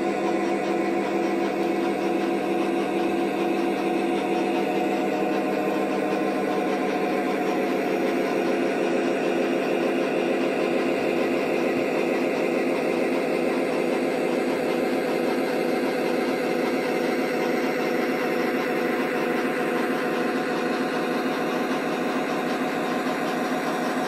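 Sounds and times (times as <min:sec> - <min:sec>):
diesel engine sound from speaker: 0:00.0 - 0:24.0.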